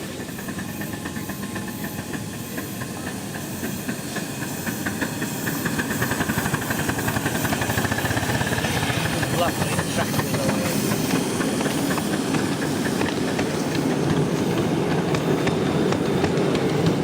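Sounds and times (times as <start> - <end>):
steam hiss: 0.0 - 17.0
steam locomotive exhaust beats: 0.0 - 17.0.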